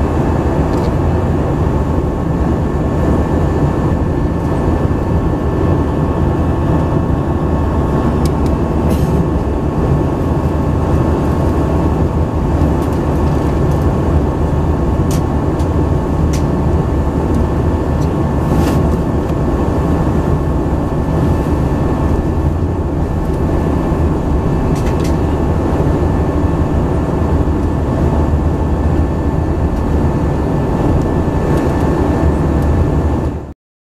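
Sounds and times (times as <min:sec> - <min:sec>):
faint steady whine: 0:00.0 - 0:33.5
jet engine cabin drone: 0:00.0 - 0:33.6.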